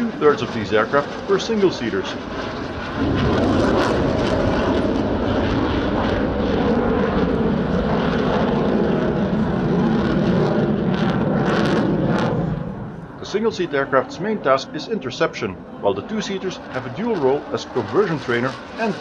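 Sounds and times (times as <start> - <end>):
fighter jet roaring: 0.0 - 19.0.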